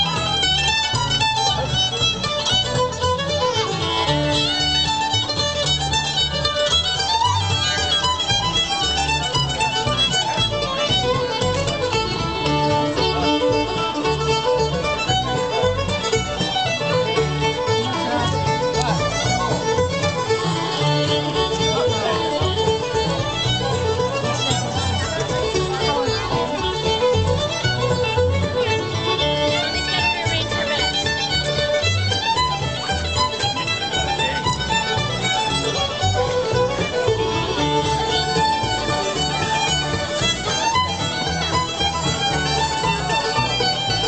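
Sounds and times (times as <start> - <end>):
acoustic string band playing: 0.0 - 44.0.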